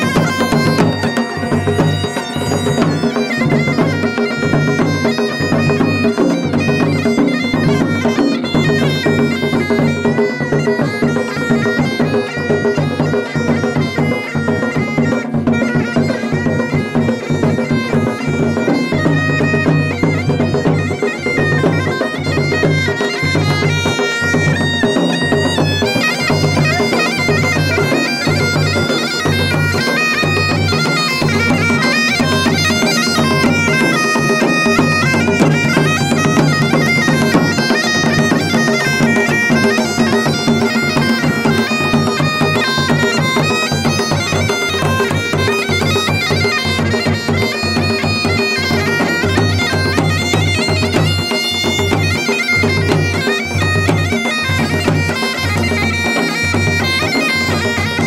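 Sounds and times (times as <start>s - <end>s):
bagpipe drone: 0.0s - 58.0s
bagpipe folk melody: 0.0s - 58.0s.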